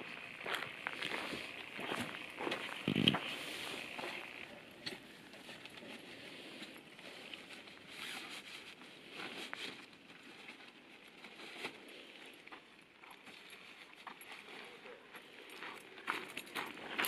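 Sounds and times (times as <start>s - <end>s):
rustling of gear: 0.0s - 17.0s.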